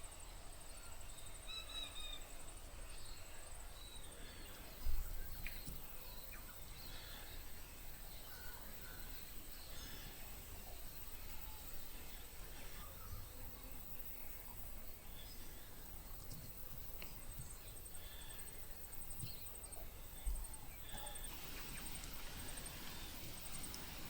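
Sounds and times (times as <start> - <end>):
outdoor background noise: 0.0 - 24.0
small birds chirping: 0.8 - 24.0.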